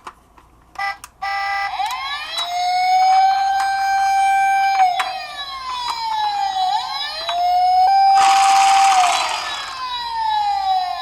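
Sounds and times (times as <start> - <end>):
toy sirens wailing: 1.3 - 11.0.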